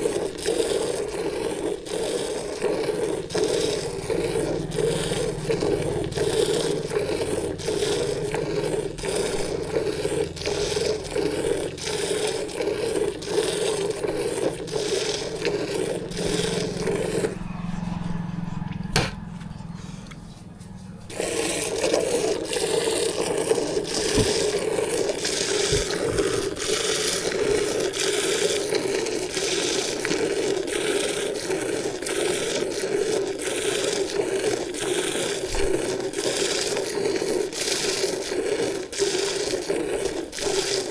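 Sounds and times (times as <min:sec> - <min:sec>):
milk squirting into vessel: 0:00.0 - 0:17.5, 0:21.1 - 0:40.9.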